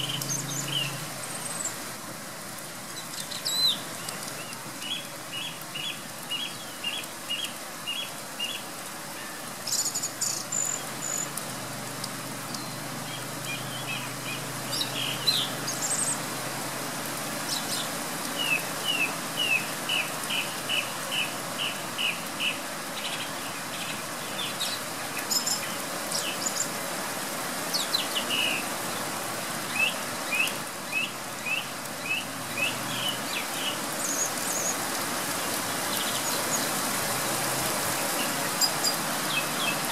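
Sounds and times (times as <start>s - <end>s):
song thrush singing: 0.0s - 1.8s, 2.9s - 11.4s, 12.4s - 16.4s, 17.4s - 26.8s, 27.6s - 37.0s, 37.8s - 39.9s
pouring rain hissing: 0.0s - 39.9s.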